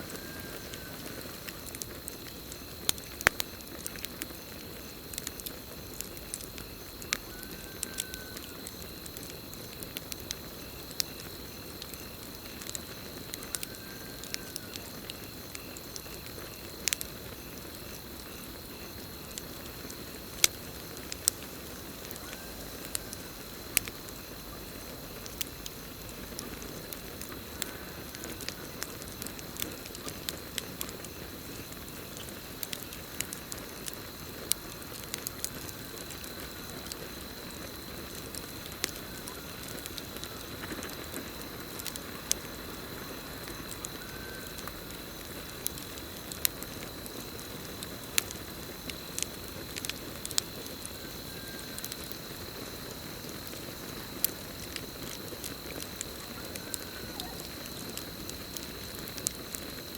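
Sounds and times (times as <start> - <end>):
hiss of flames: 0.0 - 7.5, 8.1 - 59.9
campfire crackling and popping: 0.0 - 59.9
cricket trill: 0.0 - 59.9.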